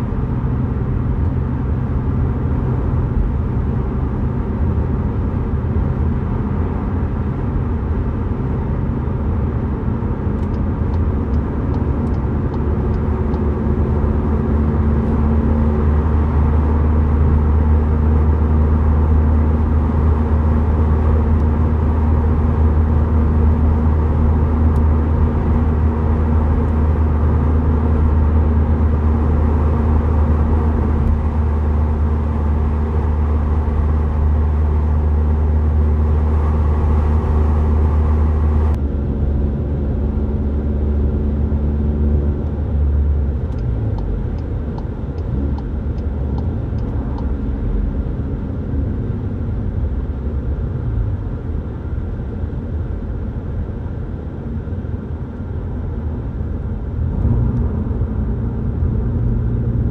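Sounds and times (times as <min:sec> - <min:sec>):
car engine drone: 0:00.0 - 0:59.9.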